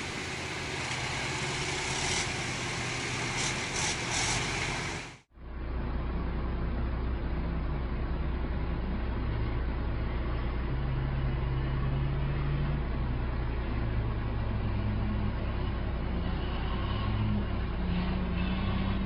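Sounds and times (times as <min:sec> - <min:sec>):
truck engine running under load: 0:00.0 - 0:19.0.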